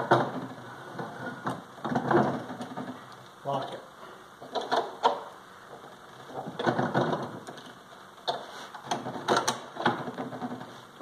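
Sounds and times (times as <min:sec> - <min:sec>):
vise clattering and rattling: 0:00.0 - 0:03.1, 0:04.4 - 0:10.8.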